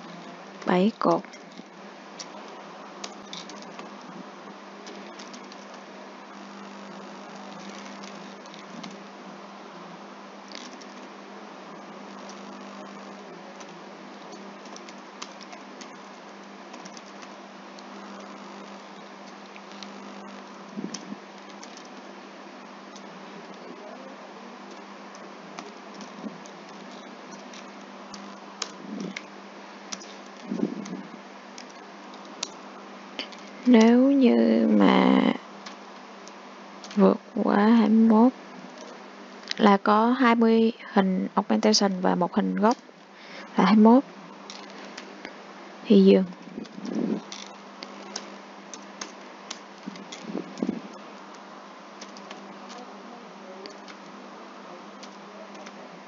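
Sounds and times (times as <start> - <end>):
background hiss: 0.0 - 56.0
low hum: 0.0 - 56.0.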